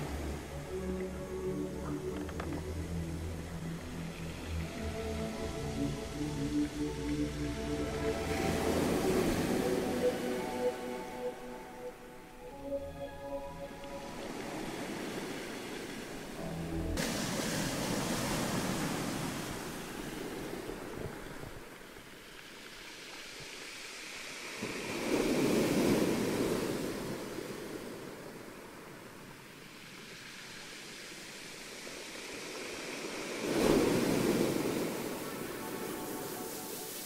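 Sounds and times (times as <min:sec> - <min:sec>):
ocean waves washing: 0:00.0 - 0:23.0, 0:24.0 - 0:37.0.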